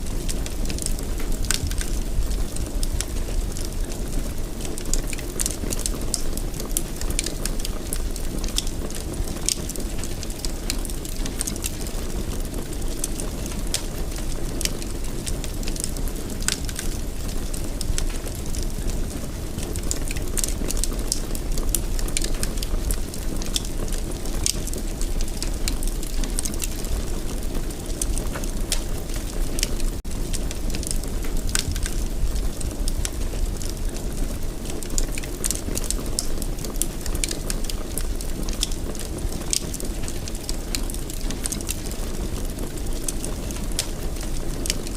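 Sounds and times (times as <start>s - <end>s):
fire crackling in a fireplace: 0.0s - 44.9s.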